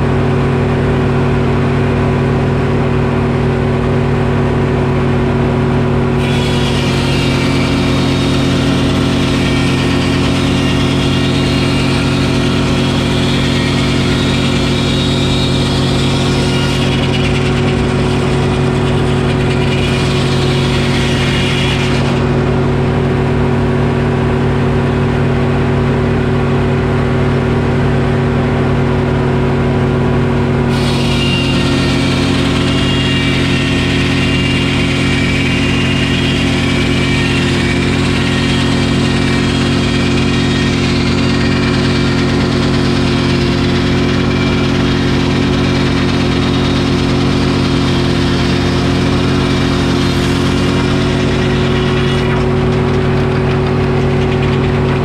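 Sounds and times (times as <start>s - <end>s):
diesel engine running: 0.0s - 55.0s
circular saw cutting log: 5.3s - 25.2s, 30.4s - 55.0s.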